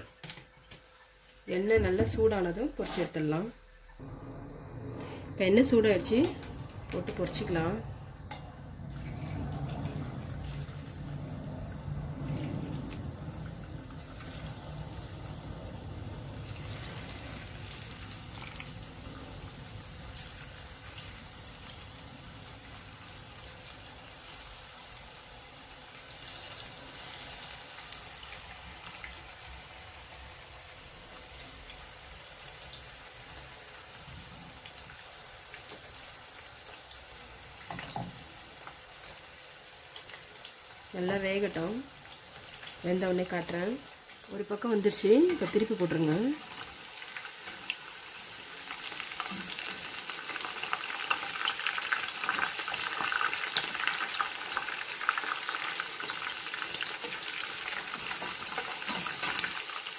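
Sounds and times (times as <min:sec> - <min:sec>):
fish deep-frying in oil: 0:05.7 - 0:59.9.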